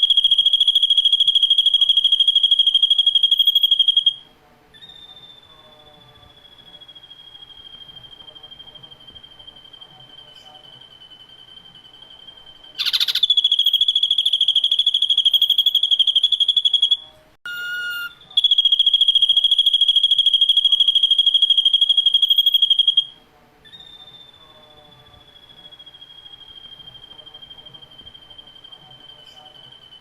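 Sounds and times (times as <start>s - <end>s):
bird pulsing high trills: 0.0s - 4.2s, 4.8s - 30.0s
bird whistled tones: 0.0s - 30.0s
faint steady high tone: 0.0s - 30.0s.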